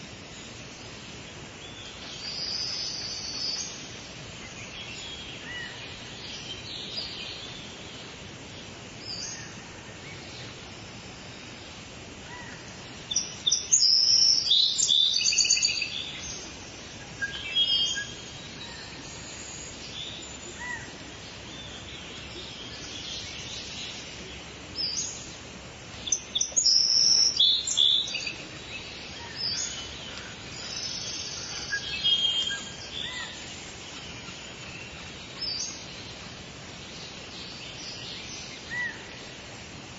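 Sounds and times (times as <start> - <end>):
outdoor ambience hiss: 0.0 - 39.9
birds singing and chirping: 0.3 - 39.6.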